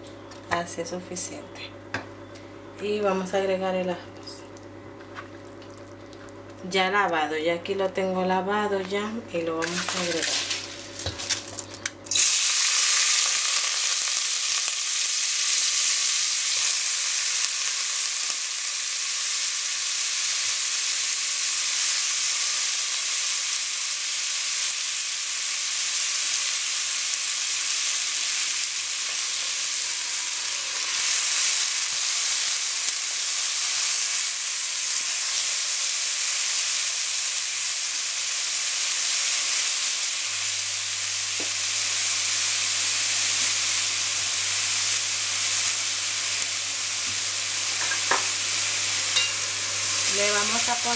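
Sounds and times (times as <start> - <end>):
rice sizzling in hot oil: 9.6 - 50.9.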